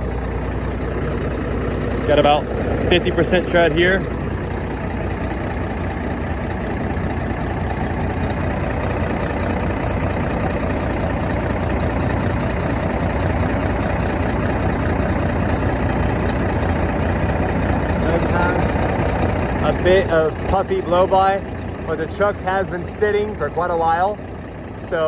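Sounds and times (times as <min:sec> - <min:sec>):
truck diesel engine idling: 0:00.0 - 0:25.0.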